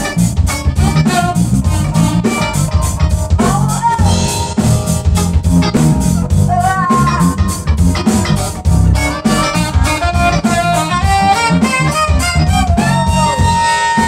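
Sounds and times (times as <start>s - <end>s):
drum kit beat: 0.0s - 14.0s
electric guitar: 0.0s - 14.0s
keyboard: 0.0s - 14.0s
saxophone: 0.0s - 14.0s.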